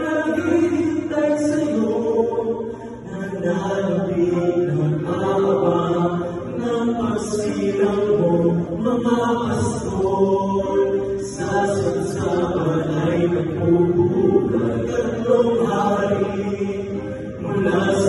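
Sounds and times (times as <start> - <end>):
male vocal quartet singing: 0.0 - 18.0.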